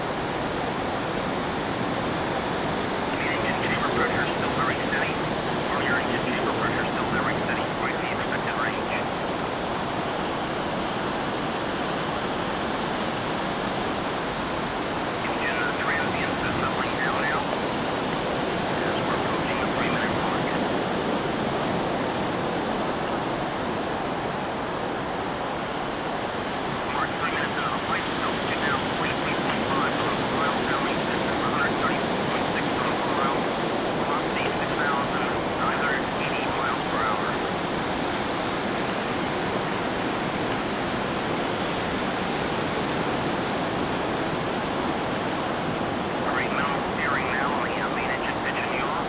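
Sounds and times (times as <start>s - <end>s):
ocean surf washing onto beach: 0.0s - 49.0s.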